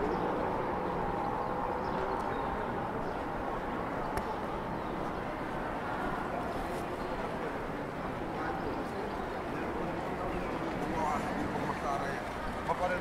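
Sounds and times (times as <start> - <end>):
traffic: 0.0 - 13.0.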